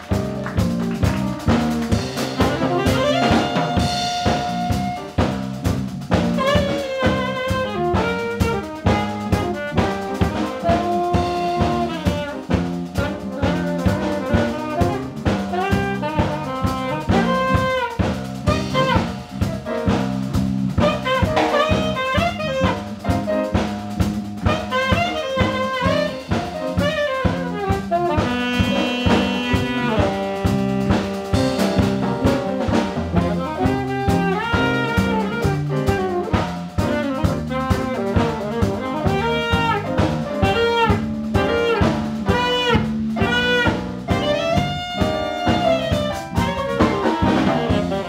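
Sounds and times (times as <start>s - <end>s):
bass: 0.0s - 48.0s
drum kit: 0.0s - 48.0s
piano: 0.0s - 48.0s
saxophone runs: 0.2s - 19.6s, 20.8s - 23.0s, 24.4s - 48.0s.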